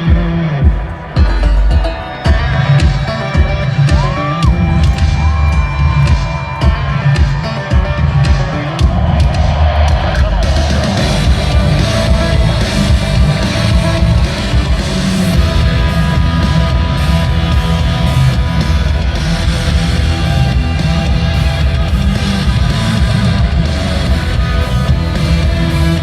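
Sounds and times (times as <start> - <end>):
instrumental rock band music: 0.0 - 26.0.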